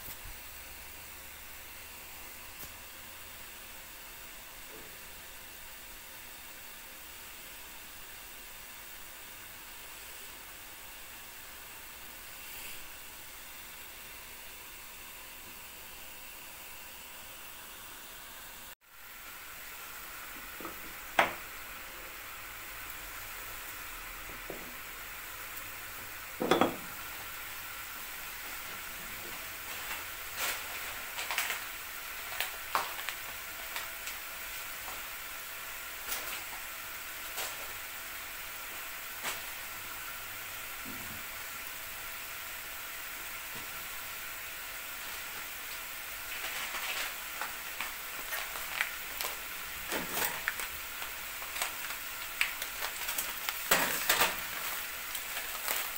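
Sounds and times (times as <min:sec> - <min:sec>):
gas stove hiss: 0:00.0 - 0:55.9.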